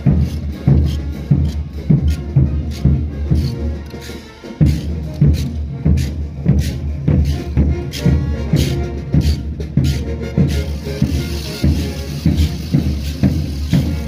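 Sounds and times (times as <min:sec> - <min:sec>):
bass drum beat: 0:00.0 - 0:14.0
brass band playing dance music: 0:00.0 - 0:14.0.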